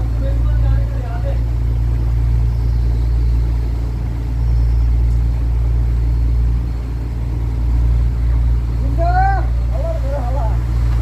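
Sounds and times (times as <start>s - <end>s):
boat engine humming: 0.0s - 11.0s
wind and water hiss: 0.0s - 11.0s.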